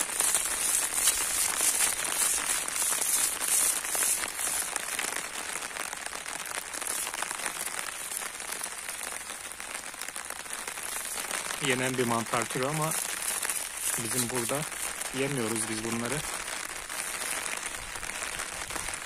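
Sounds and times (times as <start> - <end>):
rain drumming on umbrella: 0.0 - 19.0.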